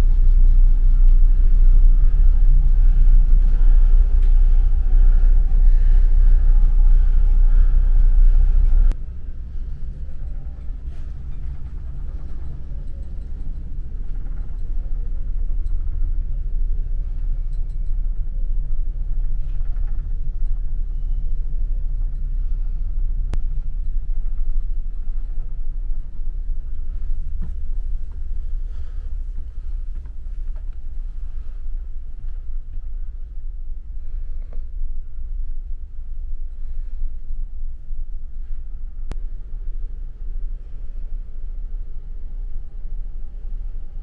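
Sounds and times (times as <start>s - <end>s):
ship engines rumbling: 0.0s - 44.0s.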